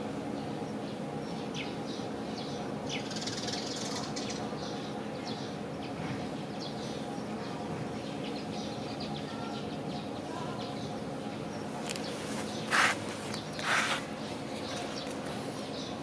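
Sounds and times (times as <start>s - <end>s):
steady low hum: 0.0s - 16.0s
small birds chirping: 0.3s - 16.0s.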